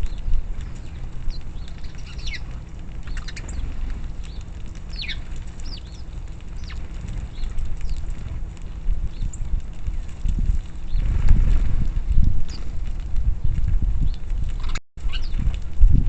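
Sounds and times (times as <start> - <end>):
small birds chirping: 0.0 - 11.2, 13.4 - 15.6
steady low rumble: 0.0 - 16.0.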